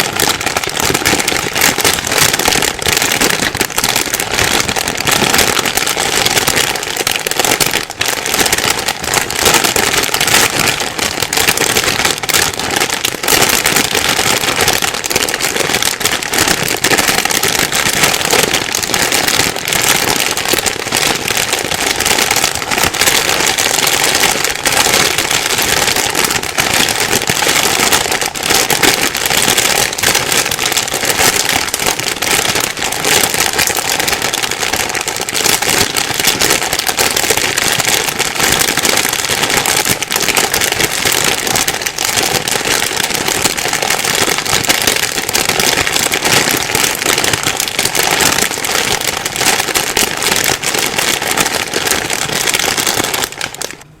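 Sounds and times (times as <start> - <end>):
plastic bag crumpling: 0.0 - 54.0.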